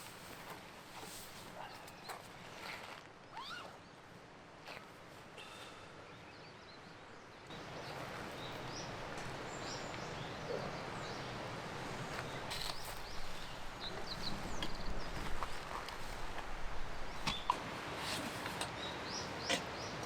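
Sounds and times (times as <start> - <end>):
rushing outdoor noise: 0.0 - 20.0.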